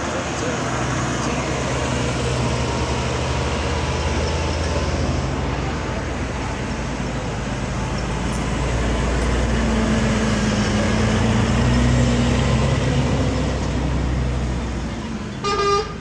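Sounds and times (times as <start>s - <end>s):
heavy vehicle engine passing: 0.0s - 16.0s.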